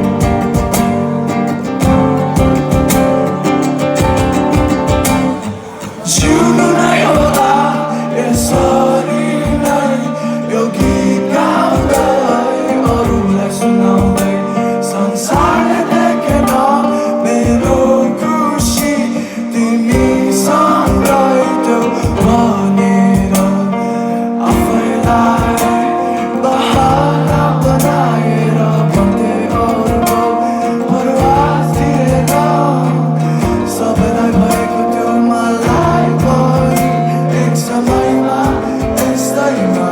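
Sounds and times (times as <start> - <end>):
guitar: 0.0 - 39.9
person singing: 0.0 - 39.9
steady drum beat: 0.0 - 39.9.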